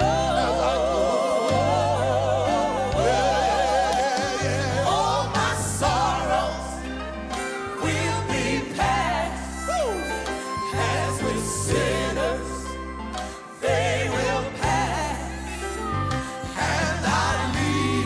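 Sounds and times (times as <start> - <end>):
steady bass line: 0.0 - 13.1, 13.7 - 18.0
gospel quartet singing: 0.0 - 18.0.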